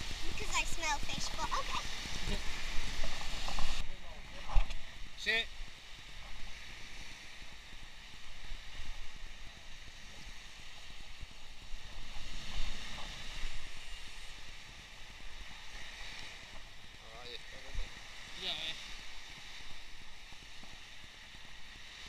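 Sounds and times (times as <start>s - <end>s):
sea surf on shore: 0.0s - 22.0s
wind buffeting microphone: 0.0s - 22.0s.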